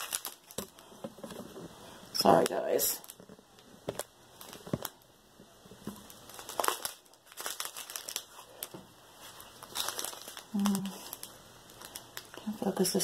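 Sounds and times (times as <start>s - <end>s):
plastic bags crinkling: 0.0s - 5.1s, 5.8s - 13.0s.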